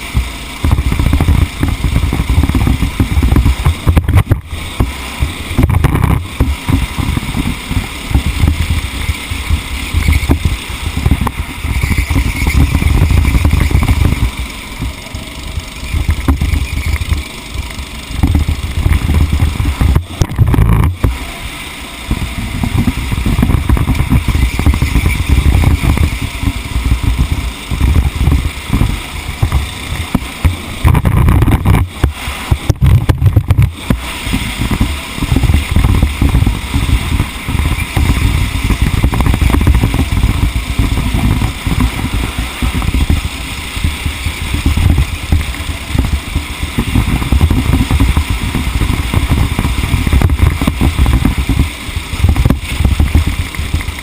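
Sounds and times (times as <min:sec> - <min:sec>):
kart engine running hard: 0:00.0 - 0:54.0
wind buffeting microphone: 0:00.0 - 0:54.0.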